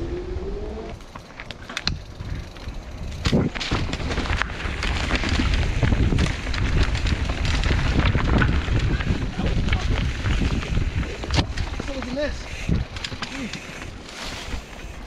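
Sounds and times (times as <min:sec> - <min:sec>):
bike clattering over rocky ground: 0:01.0 - 0:15.0.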